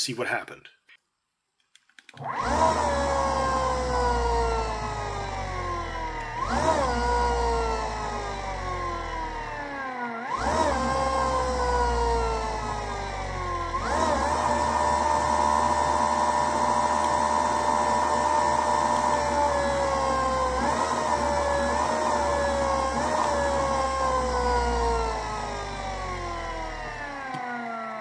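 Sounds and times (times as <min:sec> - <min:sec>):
electric motor whine: 0:02.2 - 0:28.0.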